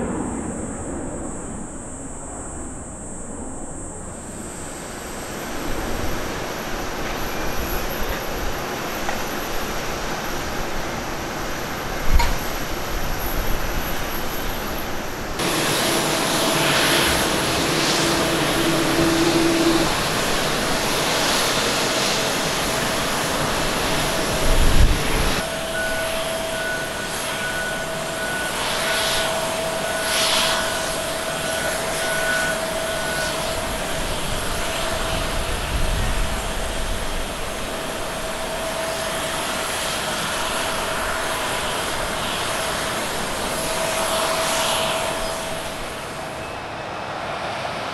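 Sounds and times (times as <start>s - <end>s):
jet engines whining: 0.0s - 47.9s.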